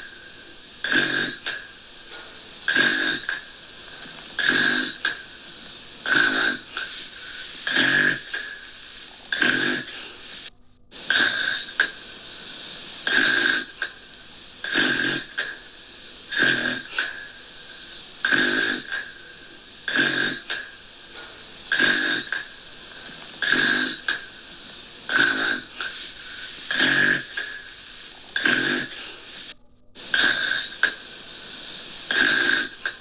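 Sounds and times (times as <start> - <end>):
gentle snoring: 0.0 - 33.0.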